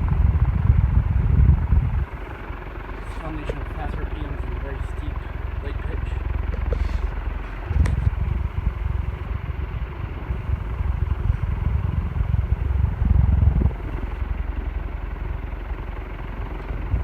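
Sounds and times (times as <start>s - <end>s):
ceiling fan rushing air: 0.0s - 17.0s
low rumble: 0.0s - 17.0s.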